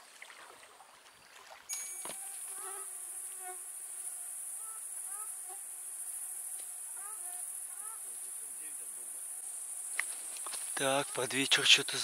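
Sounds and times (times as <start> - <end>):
crickets chorus: 0.0 - 12.0.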